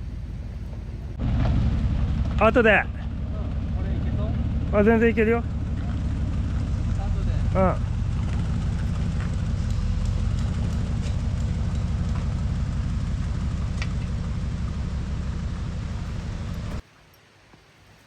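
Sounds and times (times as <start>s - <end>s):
motorcycle engine pulsing: 0.0s - 16.8s.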